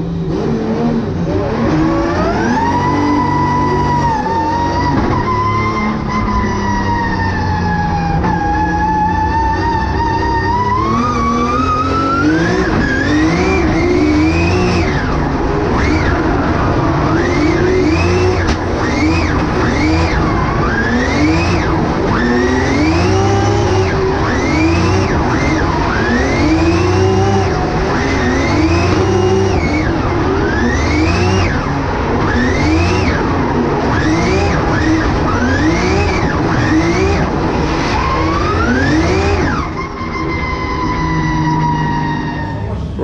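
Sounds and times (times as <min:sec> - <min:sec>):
car engine revving hard: 0:00.0 - 0:06.3, 0:09.1 - 0:40.0.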